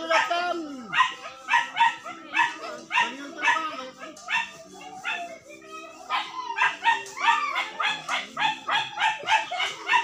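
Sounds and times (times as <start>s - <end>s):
dog barking: 0.1s - 5.3s, 6.1s - 10.0s.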